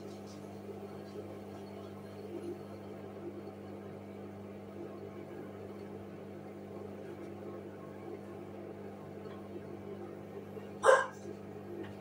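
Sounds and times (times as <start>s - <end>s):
washing machine motor hum: 0.0s - 12.0s.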